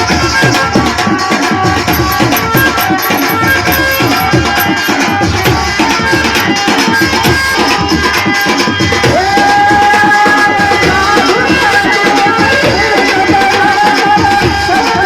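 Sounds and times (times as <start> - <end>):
hand drum beat: 0.0 - 15.0
held melodic line: 0.0 - 15.0.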